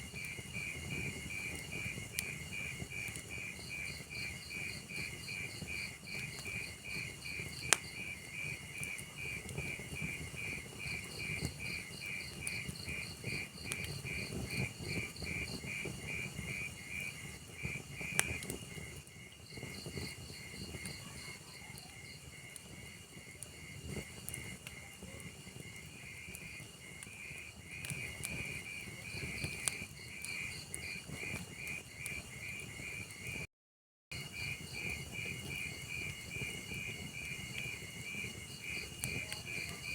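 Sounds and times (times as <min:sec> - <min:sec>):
crickets chirping: 0:00.0 - 0:33.4, 0:34.2 - 0:39.9
log fire crackling and popping: 0:00.0 - 0:33.4, 0:34.2 - 0:39.9.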